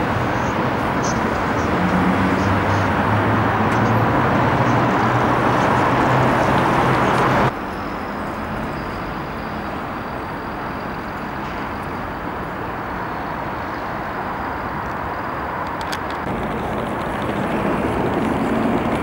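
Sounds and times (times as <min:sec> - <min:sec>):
city traffic: 0:00.0 - 0:19.0.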